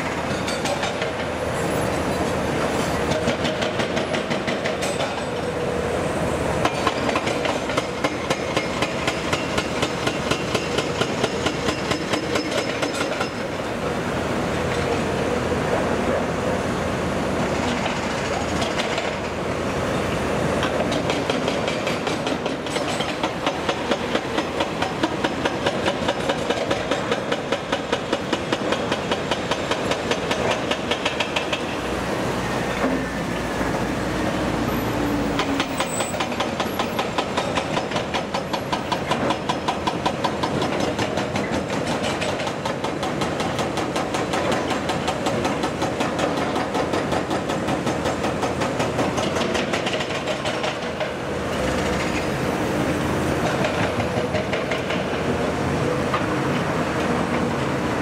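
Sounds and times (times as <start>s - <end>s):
excavator diesel engine clatter: 0.0s - 16.5s, 17.4s - 58.0s.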